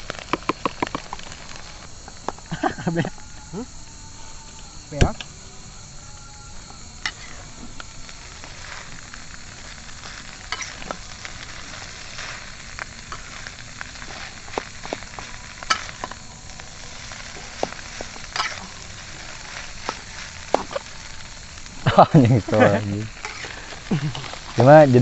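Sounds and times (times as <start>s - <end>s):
fried rice sizzling in a pan: 0.0s - 25.0s.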